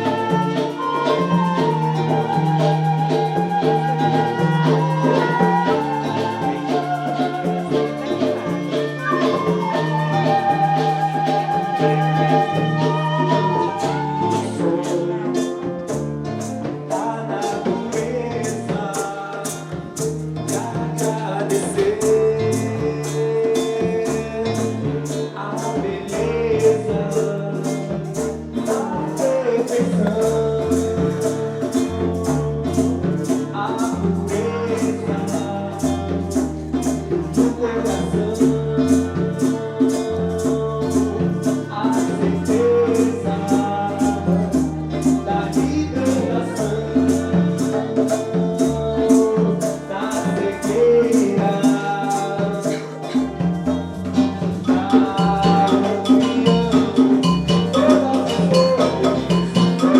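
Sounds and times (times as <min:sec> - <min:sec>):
bass line: 0:00.0 - 0:59.9
lead instrument melody: 0:00.0 - 0:59.9
shaker beat: 0:00.0 - 0:59.9.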